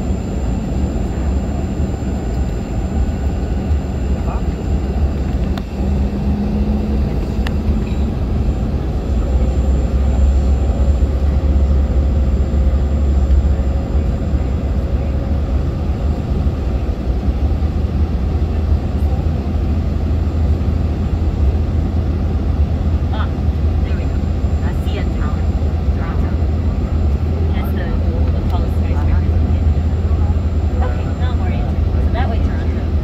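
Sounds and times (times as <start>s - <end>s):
jet engine cabin rumble: 0.0s - 33.0s.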